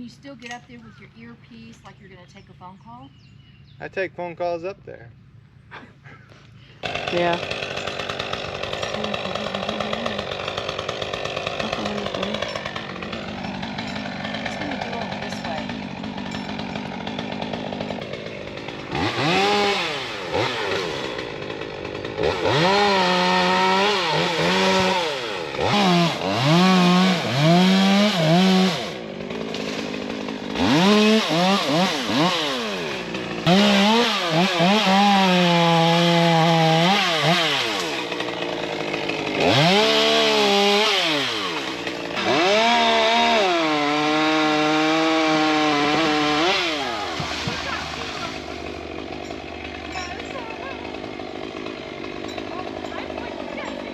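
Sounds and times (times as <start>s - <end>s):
chainsaw cutting wood: 6.7s - 53.9s.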